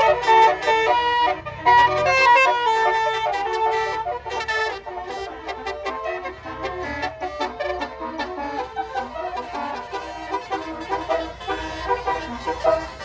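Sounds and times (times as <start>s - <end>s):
bus engine running: 0.0s - 13.0s
musical air horn melody: 0.0s - 13.0s.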